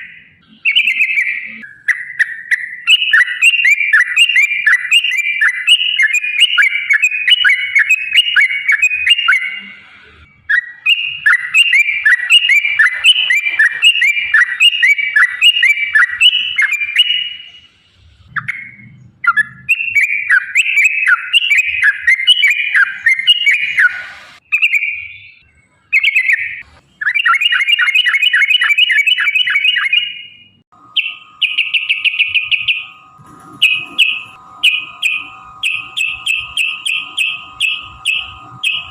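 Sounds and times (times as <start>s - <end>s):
bird song bubbly chattering: 0.0s - 38.9s.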